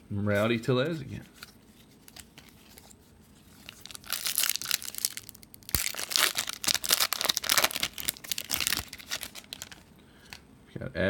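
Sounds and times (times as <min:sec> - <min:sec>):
wrapper crinkling and tearing: 0:01.4 - 0:10.4.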